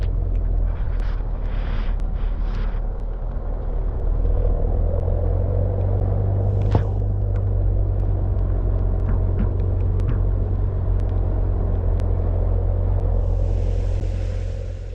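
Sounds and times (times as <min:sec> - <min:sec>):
vehicle engine and road rumble: 0:00.0 - 0:14.9.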